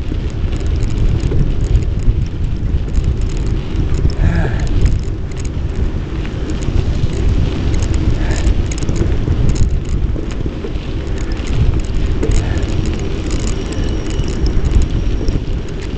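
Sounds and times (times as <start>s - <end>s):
bicycle rattles and clicks: 0.0s - 15.9s
wind rumble on microphone: 0.0s - 15.9s.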